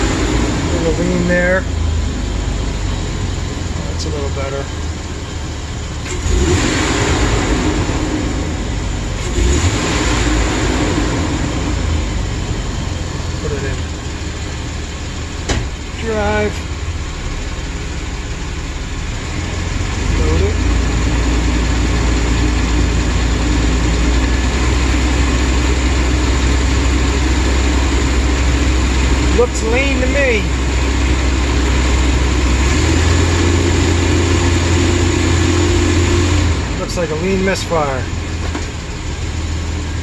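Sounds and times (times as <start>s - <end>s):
van engine running and surging: 0.0s - 40.0s.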